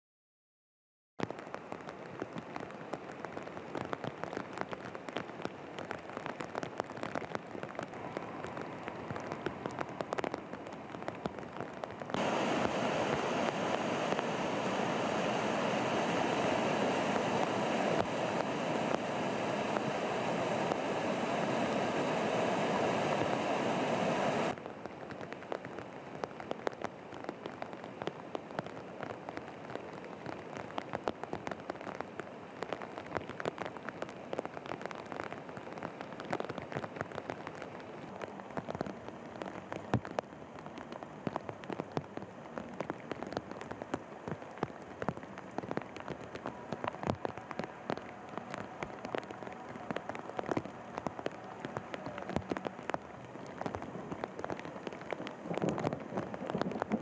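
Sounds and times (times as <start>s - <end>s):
rain falling on flooded street: 1.2s - 57.0s
rushing floodwater: 1.2s - 57.0s.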